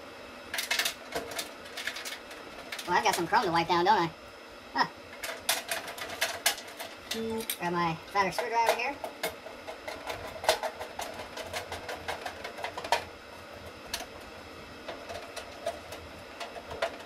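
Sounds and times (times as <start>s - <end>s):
small metallic clicks and scrapes: 0.5s - 3.5s, 5.1s - 17.0s.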